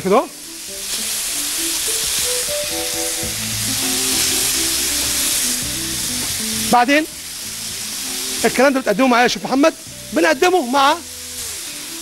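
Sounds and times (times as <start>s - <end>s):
background music of held notes: 0.0s - 12.0s
chicken sizzling on grill pan: 0.0s - 12.0s.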